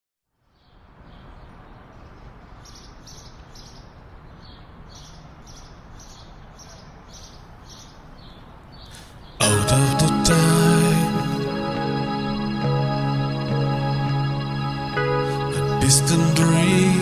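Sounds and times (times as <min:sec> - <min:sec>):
bird chirping: 0:00.4 - 0:17.0.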